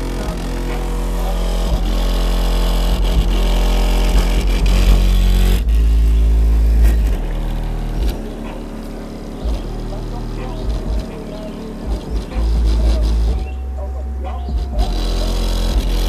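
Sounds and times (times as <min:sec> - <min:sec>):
bass-heavy music from subwoofer: 0:00.0 - 0:16.0.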